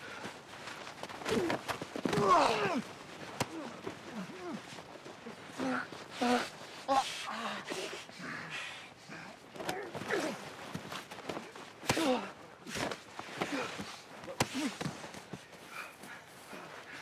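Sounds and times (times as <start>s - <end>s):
bodies scuffling on snow: 0.0s - 17.0s
men grunting and breathing hard: 0.0s - 17.0s.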